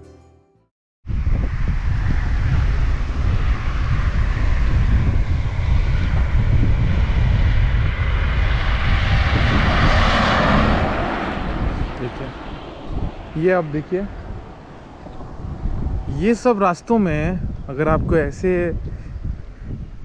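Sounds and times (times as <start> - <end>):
wind buffeting microphone: 1.0 - 20.0
road noise rush: 1.1 - 20.0.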